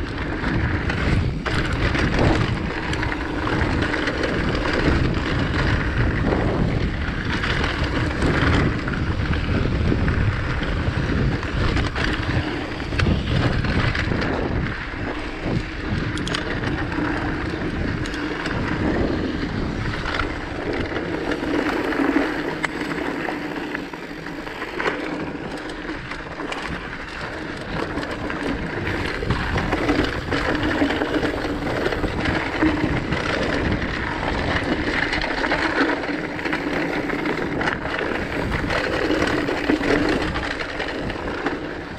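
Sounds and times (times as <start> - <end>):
bike knocking and rattling: 0.0 - 41.9
bike tyres on rocky dirt: 0.0 - 41.9
wind on microphone: 0.0 - 41.9.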